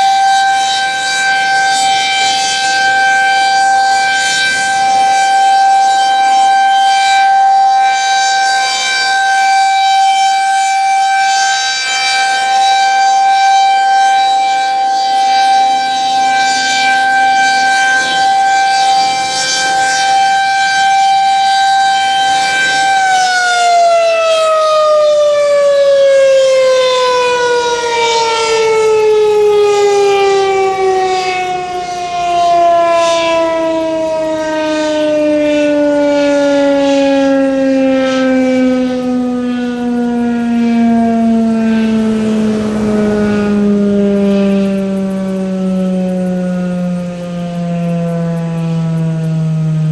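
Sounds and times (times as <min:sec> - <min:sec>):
electromechanical siren winding down: 0:00.0 - 0:49.9.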